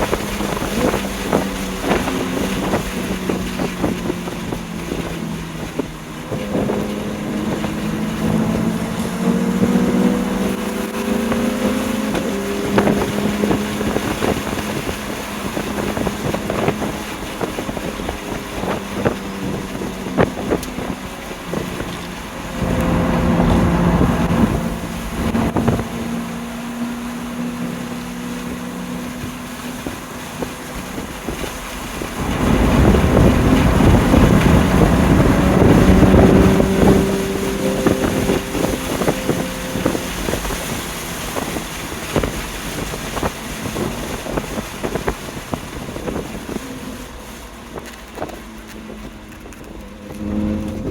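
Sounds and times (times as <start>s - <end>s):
car engine running: 0.0s - 50.9s
wind and road noise: 0.0s - 50.9s.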